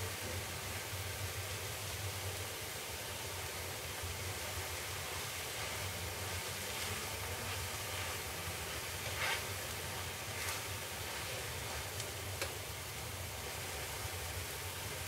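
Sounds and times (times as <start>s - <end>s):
crepe sizzling in pan: 0.0s - 15.0s.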